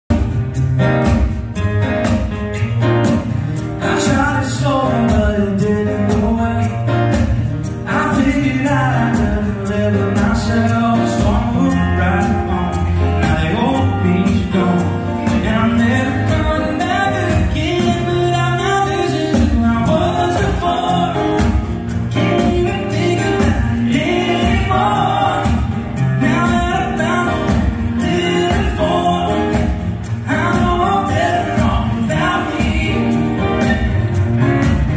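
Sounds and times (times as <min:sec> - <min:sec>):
acoustic guitars playing: 0:00.0 - 0:34.9.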